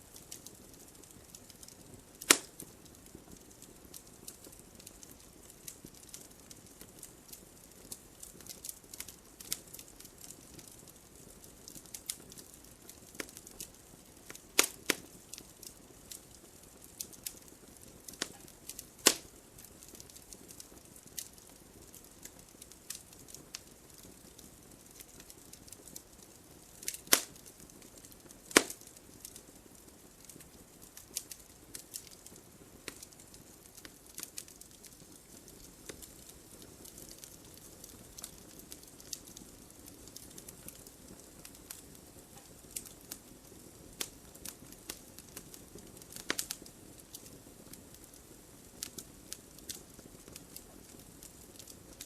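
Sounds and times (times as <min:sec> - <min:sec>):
fire popping: 0:00.0 - 0:52.0
wood fire crackling: 0:00.0 - 0:52.0.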